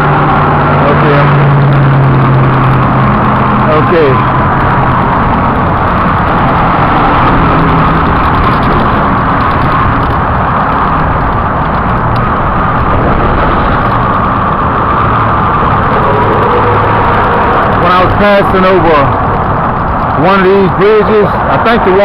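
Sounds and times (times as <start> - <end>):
engine hum: 0.0 - 22.0
road travel rumble: 0.0 - 22.0.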